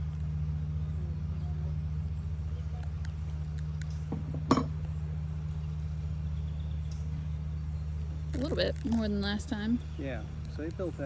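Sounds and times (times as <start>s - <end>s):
honeybees humming: 0.0s - 11.0s.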